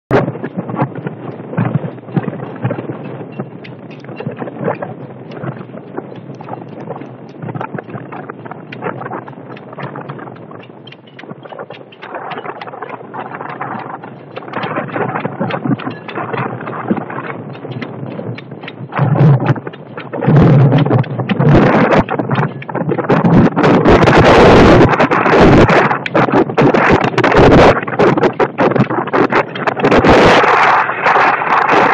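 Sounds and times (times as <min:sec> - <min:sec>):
wind buffeting microphone: 0:00.1 - 0:31.9.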